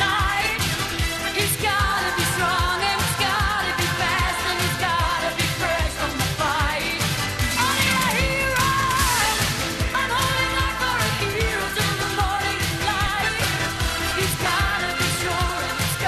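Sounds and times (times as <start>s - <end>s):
pop song with singing: 0.0s - 16.0s
steady drum beat: 0.0s - 16.0s.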